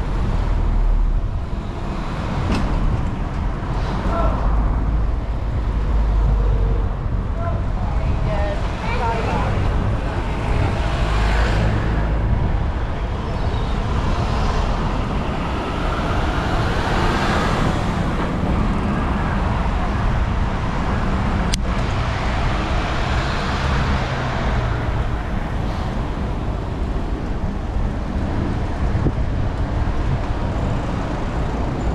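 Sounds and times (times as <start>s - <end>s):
road traffic: 0.0s - 31.9s
vehicles passing: 0.0s - 31.9s.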